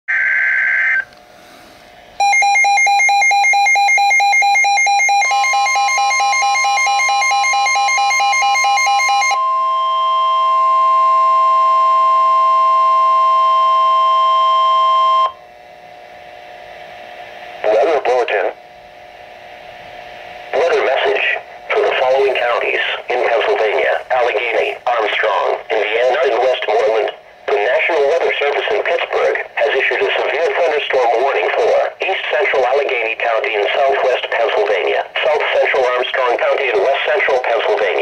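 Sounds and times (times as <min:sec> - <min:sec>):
steady warning alarm tone: 0:02.2 - 0:15.8, 0:20.3 - 0:38.0.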